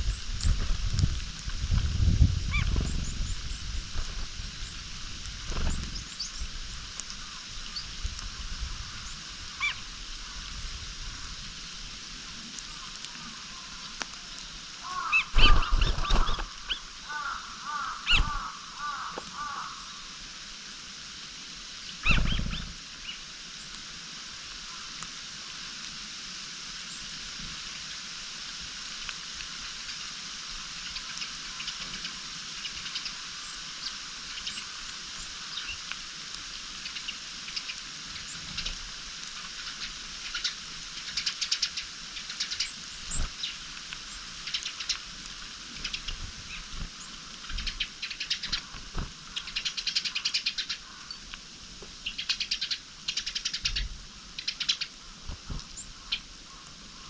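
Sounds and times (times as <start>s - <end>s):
songbirds chirping: 2.4s - 23.8s, 29.0s - 57.0s.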